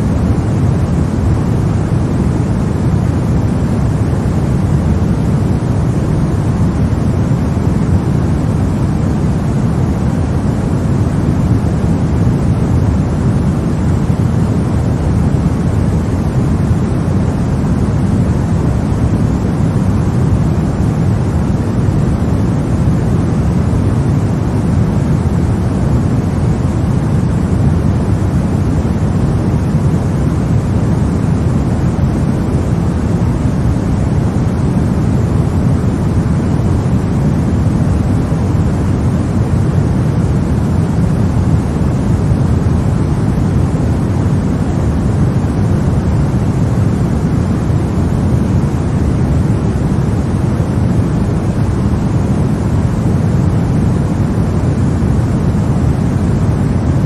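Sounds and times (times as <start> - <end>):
deep rumbly steady noise: 0.0 - 57.0.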